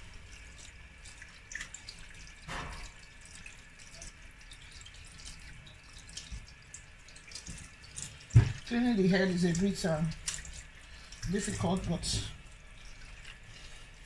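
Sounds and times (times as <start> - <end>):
water dripping and splashing: 0.0 - 14.0.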